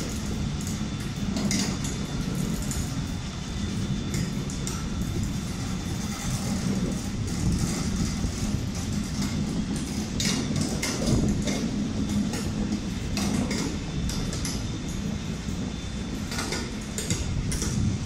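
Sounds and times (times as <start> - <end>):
train coaches rumbling past: 0.0 - 18.0
train wheels clanking: 0.0 - 18.0.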